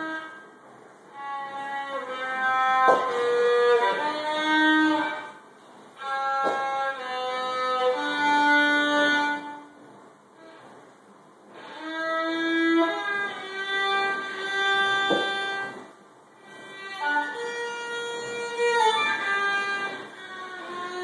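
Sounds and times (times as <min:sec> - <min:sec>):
violin melody: 0:00.0 - 0:09.8, 0:11.5 - 0:21.0.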